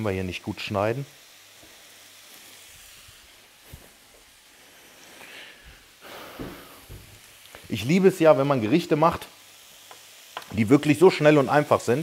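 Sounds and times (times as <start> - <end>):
chicken sizzling in frying pan: 0.0 - 12.0.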